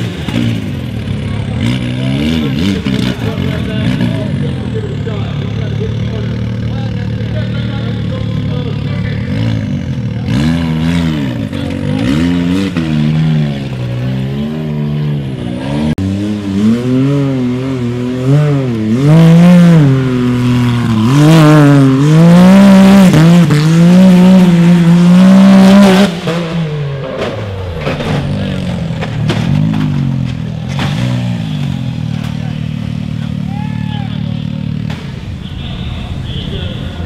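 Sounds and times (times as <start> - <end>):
race engine revving: 0.0 - 37.0.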